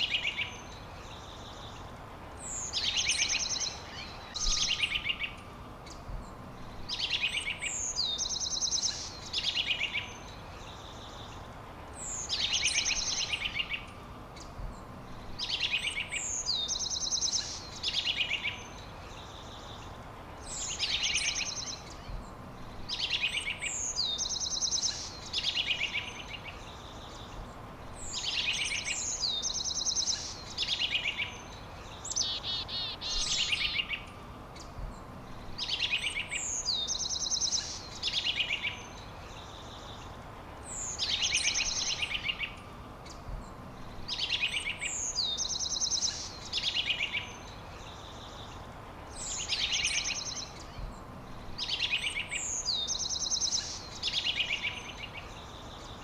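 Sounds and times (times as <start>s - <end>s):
songbird singing: 0.0s - 56.0s
steady background hiss: 0.0s - 56.0s.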